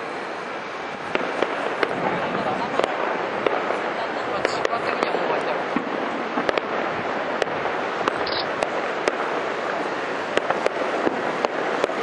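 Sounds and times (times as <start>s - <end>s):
fireworks bursts rumbling: 0.0s - 12.0s
fireworks sharp cracks: 0.0s - 12.0s.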